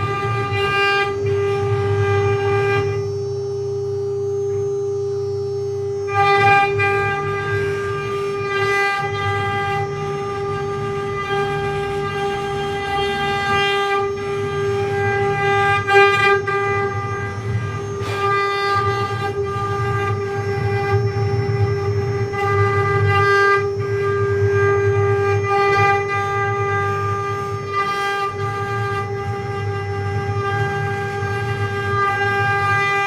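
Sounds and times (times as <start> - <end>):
router bit cutting wood: 0.0 - 3.4, 5.8 - 33.0
router spindle whine: 0.0 - 33.0.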